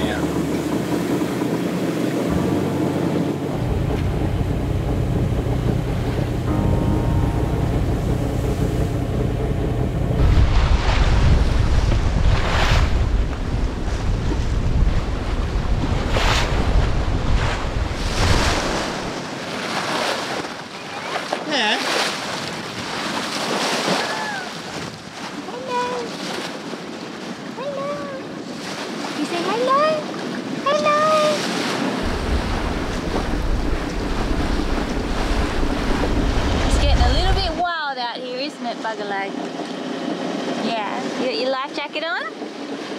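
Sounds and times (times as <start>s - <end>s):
sea water rushing past boat: 0.0s - 42.9s
wind buffeting microphone: 0.0s - 42.9s.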